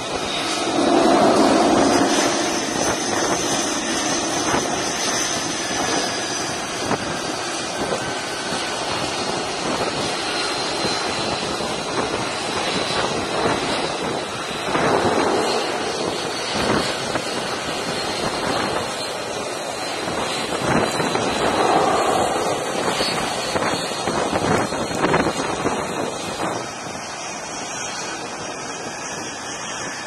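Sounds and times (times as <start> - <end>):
jet engine noise with high whine: 0.0 - 30.0.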